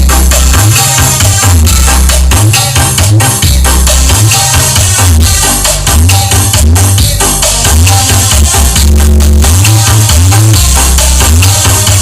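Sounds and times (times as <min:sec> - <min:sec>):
deep bass notes: 0:00.0 - 0:12.0
loud dance music: 0:00.0 - 0:12.0
percussion: 0:00.0 - 0:12.0.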